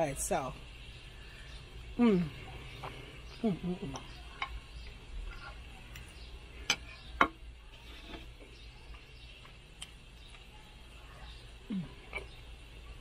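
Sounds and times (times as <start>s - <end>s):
quiet chewing: 1.2s - 6.9s, 7.8s - 13.0s.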